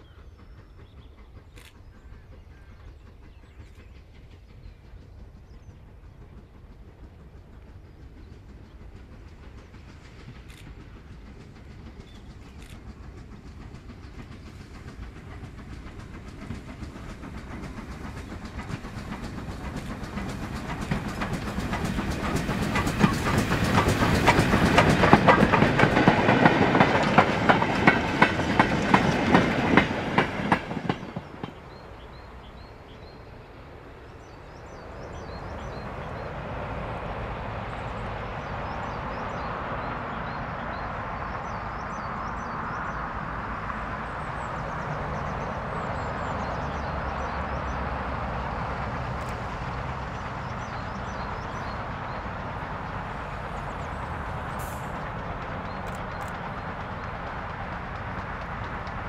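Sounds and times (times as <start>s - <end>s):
birds chirping: 0.0s - 59.0s
train wheels clicking over rail joints: 0.0s - 59.0s.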